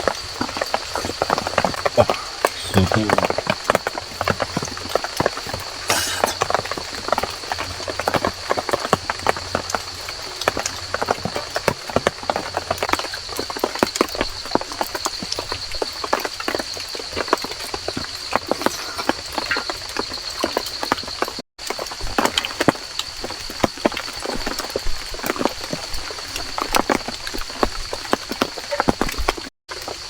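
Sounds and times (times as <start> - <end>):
raindrops dripping on leaves: 0.0 - 30.0.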